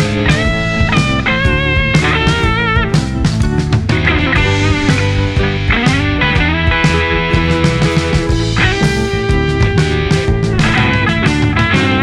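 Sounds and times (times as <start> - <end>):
electric guitar rock music: 0.0 - 12.0.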